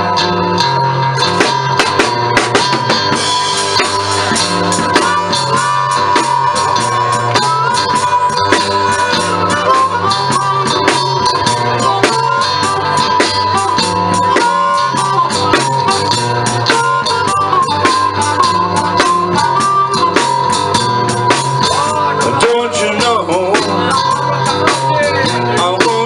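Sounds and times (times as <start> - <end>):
drum kit beat: 0.0 - 26.0
electric guitar lines: 0.0 - 26.0
live blues band: 0.0 - 26.0.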